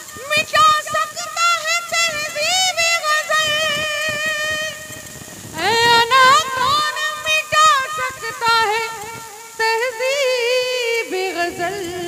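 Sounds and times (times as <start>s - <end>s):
woman singing ornamented verse: 0.0s - 12.0s.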